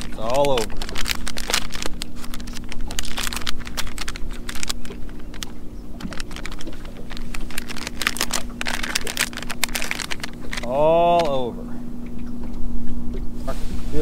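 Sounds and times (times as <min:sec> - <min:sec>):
fishing tackle clicking and crinkling: 0:00.0 - 0:11.5
low electric hum: 0:00.0 - 0:14.0.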